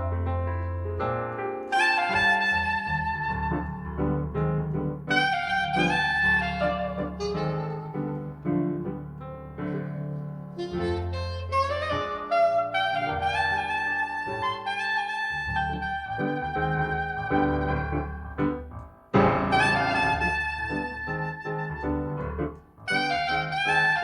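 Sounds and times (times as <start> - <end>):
piano accompaniment: 0.0 - 24.0
soprano saxophone melody: 1.6 - 9.0, 10.5 - 18.6, 19.2 - 24.0.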